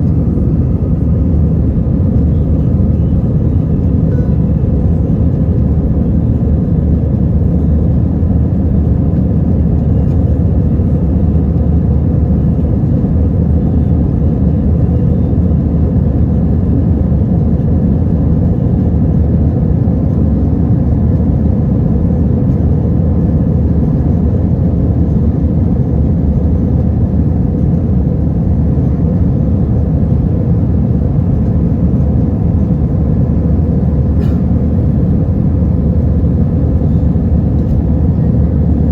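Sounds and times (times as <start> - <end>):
jet engine and airflow in cabin: 0.0 - 38.9.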